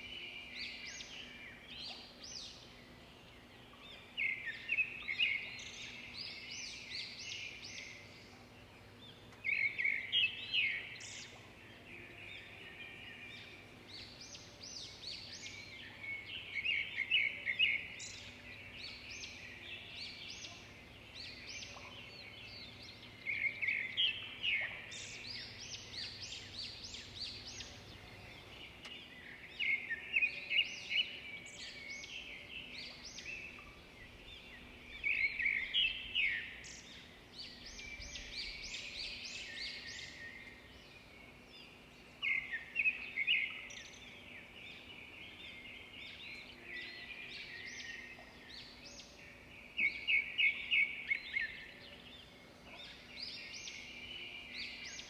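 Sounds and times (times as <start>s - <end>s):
birds chirping: 9.4s - 55.0s.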